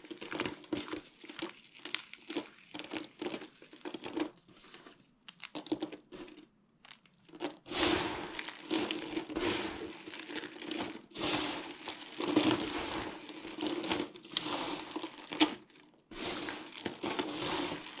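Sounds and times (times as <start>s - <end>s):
dry soap crunching: 0.0s - 18.0s.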